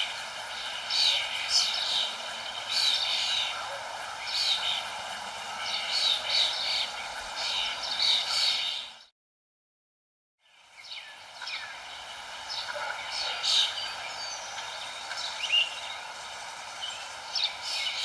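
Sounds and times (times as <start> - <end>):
songbirds chirping: 0.0 - 9.1, 10.4 - 18.0
steady hiss: 0.0 - 9.1, 10.4 - 18.0.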